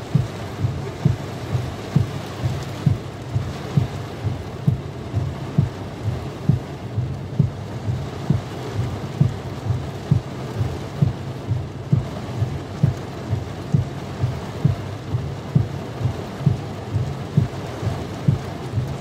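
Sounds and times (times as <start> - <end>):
heavy rain drumming on car: 0.0 - 19.0
low engine hum: 0.0 - 19.0
windscreen wiper thumps: 0.0 - 19.0.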